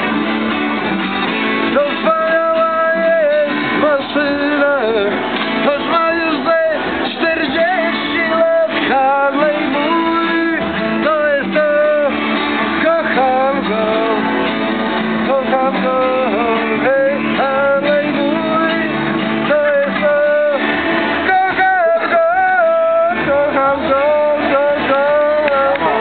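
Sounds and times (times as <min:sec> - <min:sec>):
strummed guitar: 0:00.0 - 0:26.0
person singing: 0:01.7 - 0:26.0.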